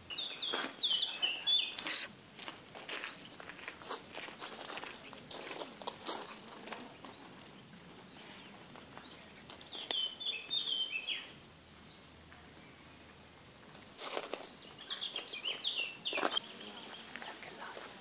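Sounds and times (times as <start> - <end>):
songbird singing: 0.0 - 2.2, 2.9 - 3.7, 4.8 - 18.0.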